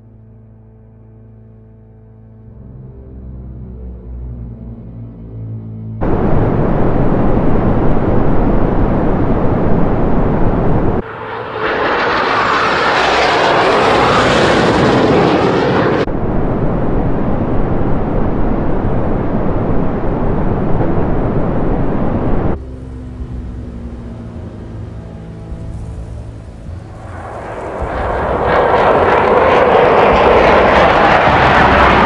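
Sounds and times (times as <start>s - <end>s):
jet engine roar: 6.0s - 32.0s.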